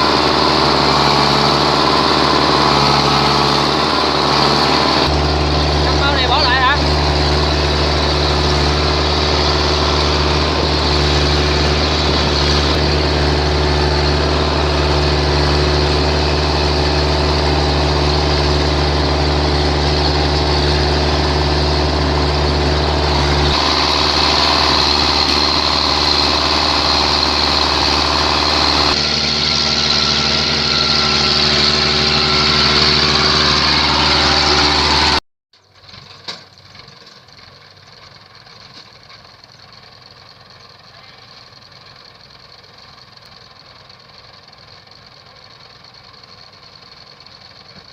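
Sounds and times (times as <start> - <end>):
combine harvester engine and machinery: 0.0 - 47.9.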